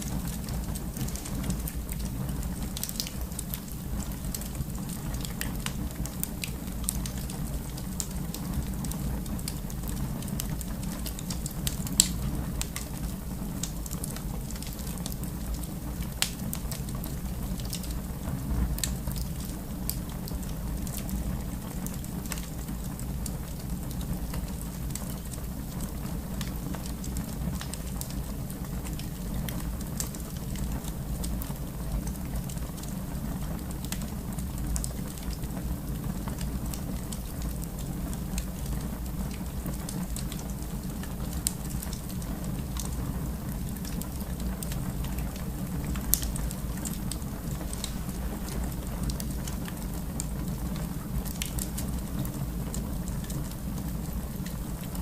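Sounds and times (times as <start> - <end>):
fire flame rumble: 0.0 - 55.0
wood fire crackling and popping: 0.0 - 55.0.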